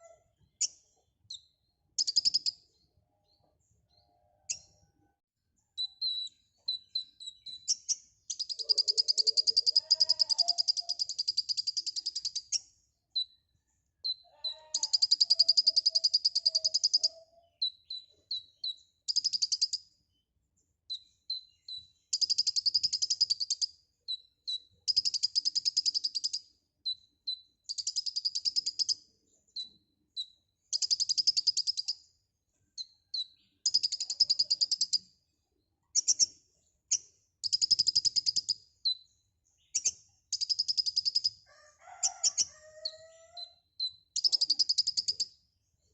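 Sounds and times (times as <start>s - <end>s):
bird sharp chirps: 0.0s - 4.8s, 5.8s - 13.4s, 14.0s - 19.9s, 20.9s - 32.1s, 32.8s - 35.1s, 35.9s - 41.4s, 42.0s - 45.4s.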